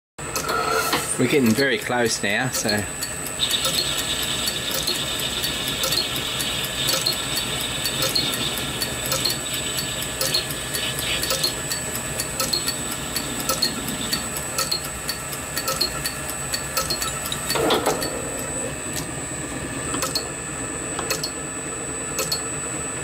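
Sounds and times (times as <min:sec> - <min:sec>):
lathe running with hum and ticking: 0:00.2 - 0:23.0.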